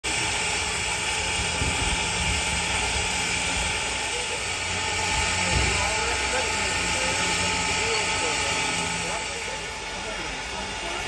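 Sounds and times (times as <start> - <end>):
steam hissing: 0.0 - 11.0
locomotive low rumble: 0.1 - 11.0.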